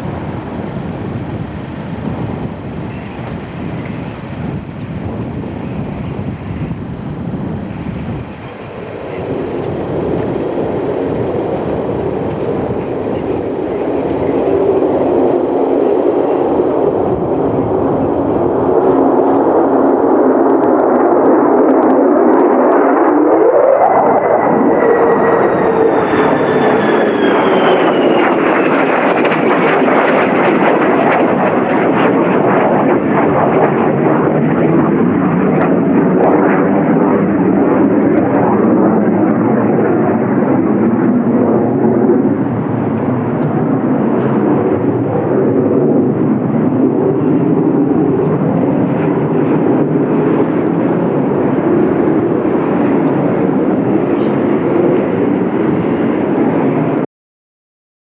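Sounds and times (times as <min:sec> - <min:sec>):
jet engine flying by: 0:00.0 - 0:57.1
high whining jet tones: 0:07.7 - 0:35.7, 0:36.3 - 0:57.1.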